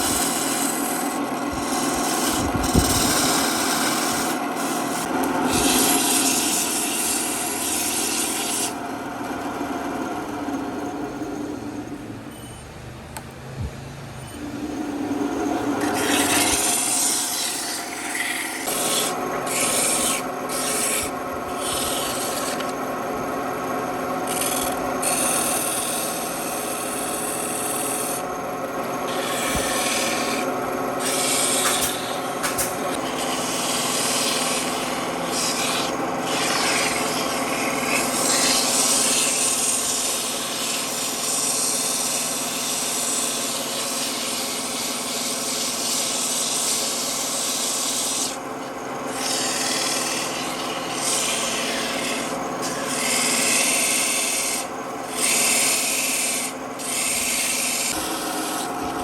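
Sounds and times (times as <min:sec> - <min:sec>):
power tool sanding wood: 0:00.0 - 0:08.8, 0:15.6 - 0:22.8, 0:24.1 - 0:28.3, 0:28.9 - 0:59.0
power tool motor whine: 0:00.0 - 0:09.4, 0:14.2 - 0:59.0.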